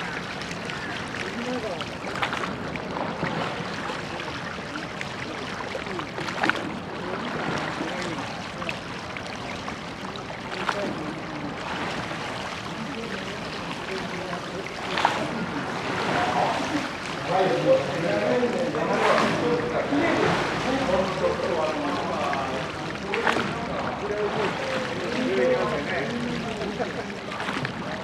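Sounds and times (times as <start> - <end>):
faint voices: 0.0 - 28.0
oar strokes splashing: 0.0 - 28.0
water splashing along boat hull: 0.0 - 28.0.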